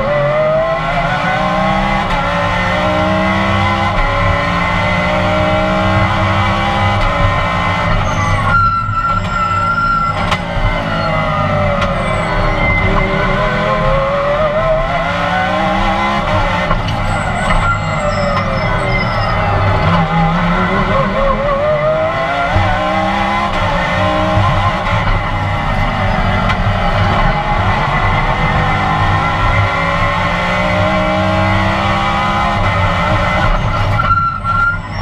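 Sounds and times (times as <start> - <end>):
race car engine shifting gears: 0.0 - 9.4, 10.1 - 34.2.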